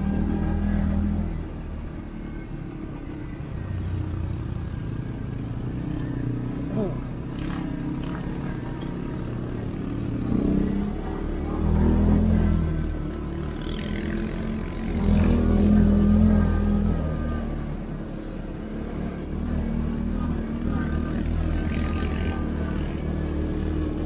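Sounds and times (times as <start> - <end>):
atv engine revving: 0.0 - 2.4, 4.2 - 24.0.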